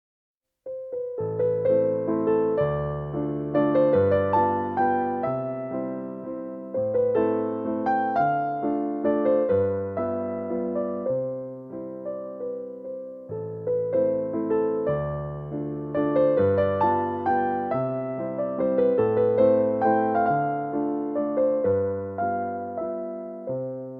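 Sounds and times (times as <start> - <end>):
gentle piano piece: 0.6 - 23.9.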